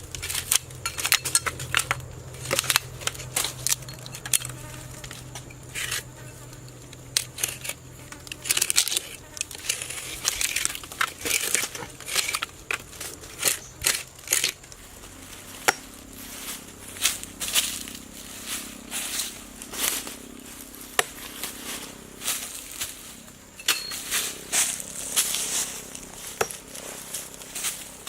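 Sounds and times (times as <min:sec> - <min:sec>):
crinkling rustles: 0:00.0 - 0:28.0.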